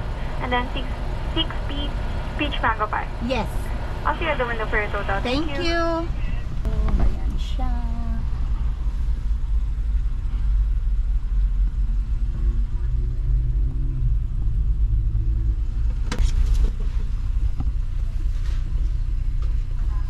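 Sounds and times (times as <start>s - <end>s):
car engine rumble from cabin: 0.0s - 20.0s.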